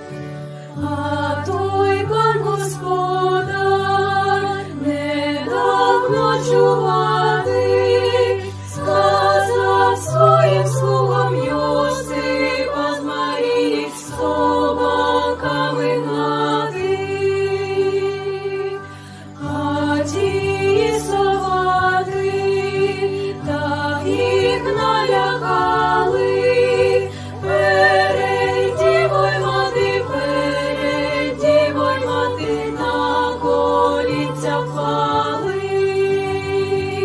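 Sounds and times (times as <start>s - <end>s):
instrumental accompaniment: 0.0s - 37.0s
girls singing together: 0.8s - 37.0s.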